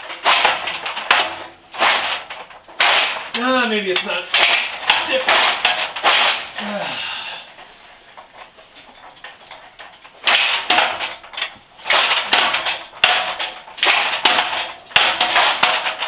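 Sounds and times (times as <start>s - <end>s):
metal scraping and grinding: 0.0s - 16.0s.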